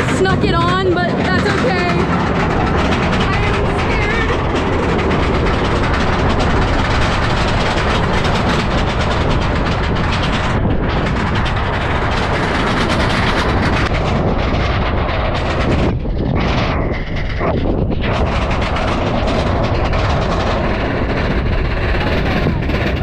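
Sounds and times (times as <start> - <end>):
roller coaster cars rattling on rails: 0.0 - 23.0
wind on microphone: 0.0 - 23.0.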